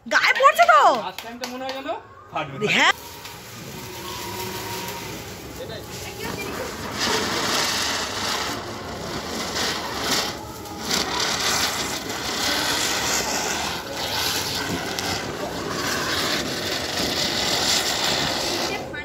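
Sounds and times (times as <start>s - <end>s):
fountain firework hissing: 2.9s - 19.0s.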